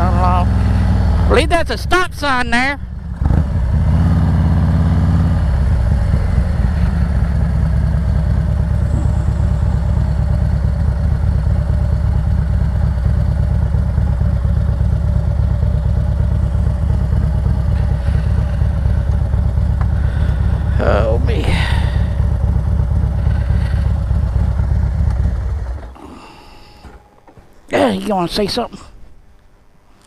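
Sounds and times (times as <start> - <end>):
motorcycle engine idling: 0.0 - 27.6.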